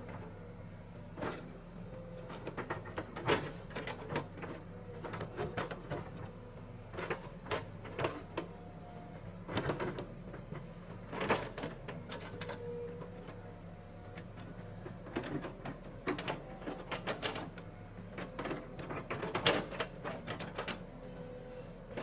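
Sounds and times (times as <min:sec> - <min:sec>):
construction machinery engine hum: 0:00.0 - 0:22.0.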